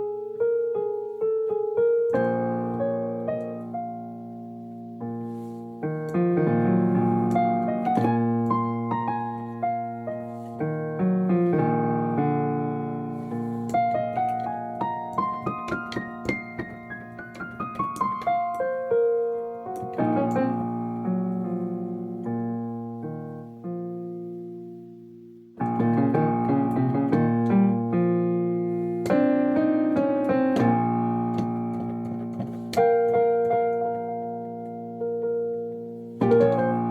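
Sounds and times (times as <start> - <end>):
solo piano playing: 0.0 - 36.9.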